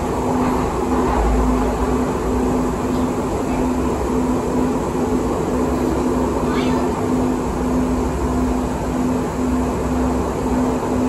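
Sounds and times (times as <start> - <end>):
train wheels rolling rumble: 0.0 - 11.0.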